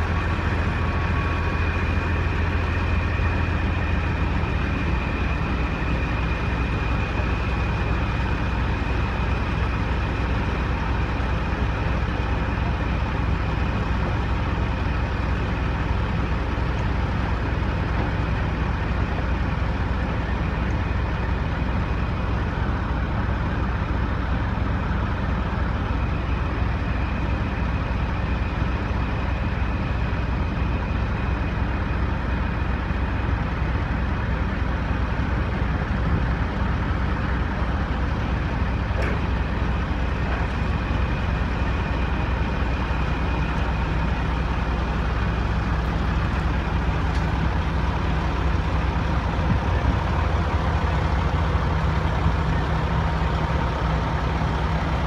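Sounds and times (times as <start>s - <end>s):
truck diesel engines rumbling: 0.0s - 55.0s.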